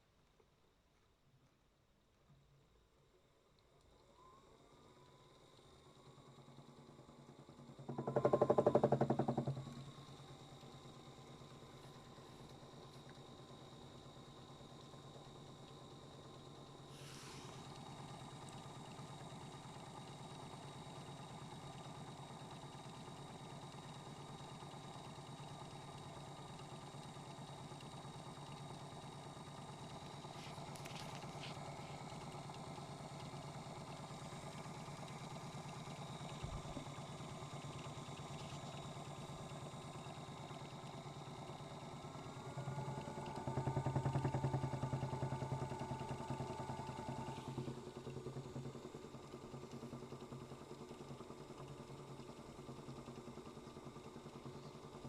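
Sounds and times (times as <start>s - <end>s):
toy washing machine motor running: 7.9s - 55.0s.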